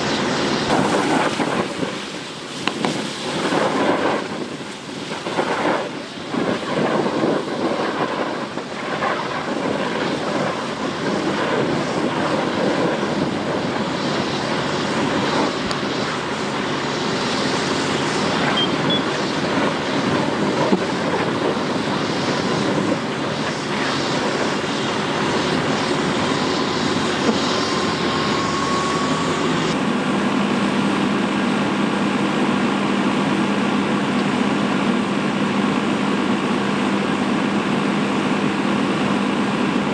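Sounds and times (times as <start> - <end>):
fire rushing and crackling: 0.0 - 39.9.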